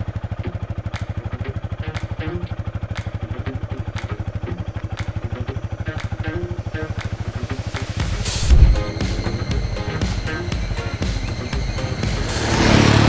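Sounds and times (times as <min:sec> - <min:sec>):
motorcycle engine idling: 0:00.0 - 0:13.0
sharp tick: 0:00.5 - 0:12.1.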